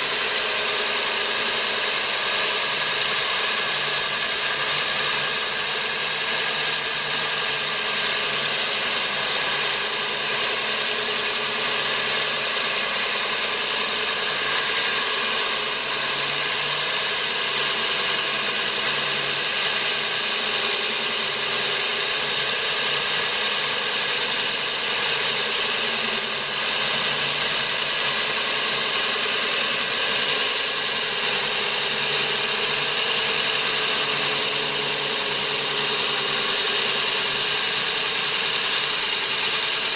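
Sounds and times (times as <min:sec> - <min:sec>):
core drill cutting concrete: 0:00.0 - 0:39.9.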